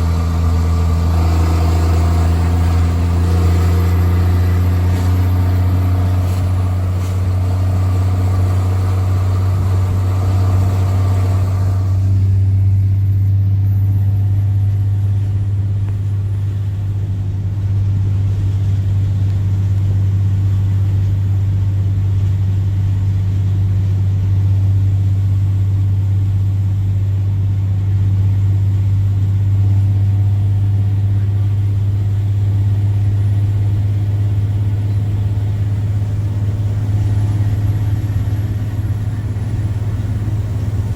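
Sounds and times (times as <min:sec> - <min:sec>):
diesel bus engine exhaust: 0:00.0 - 0:40.9.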